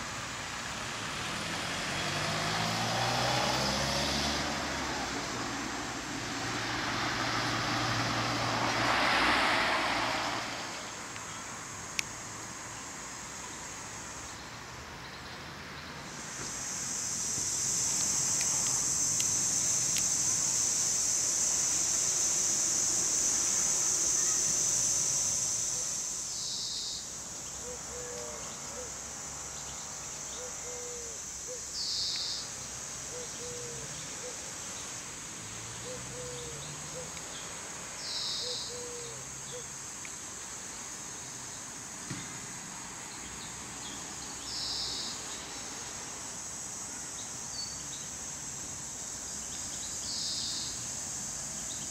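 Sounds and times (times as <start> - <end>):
insects buzzing shrilly: 0.7 - 14.4, 16.1 - 51.9.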